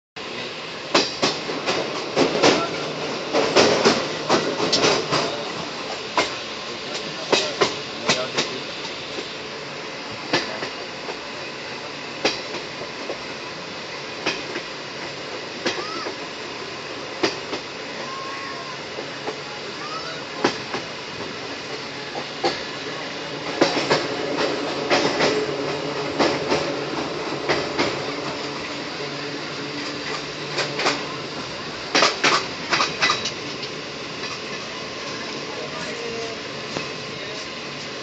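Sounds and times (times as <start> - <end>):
train rumble: 0.2 - 38.0.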